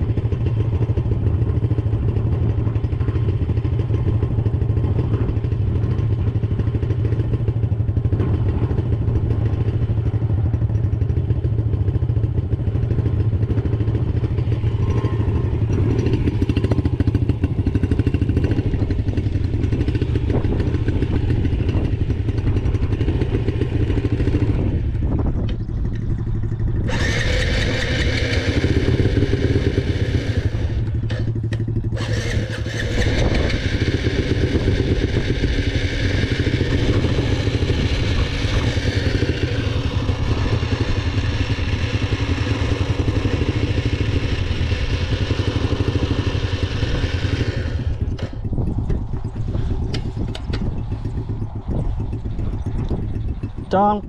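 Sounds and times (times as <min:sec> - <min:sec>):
dirt bike engine running: 0:00.0 - 0:54.0
wind noise: 0:00.0 - 0:54.0.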